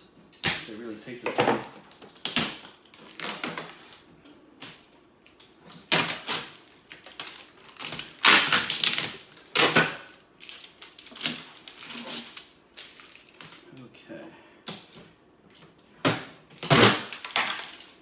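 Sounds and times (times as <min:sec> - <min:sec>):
tape and plastic tearing: 0:00.0 - 0:00.8, 0:01.6 - 0:04.0, 0:04.6 - 0:13.6, 0:14.7 - 0:18.0.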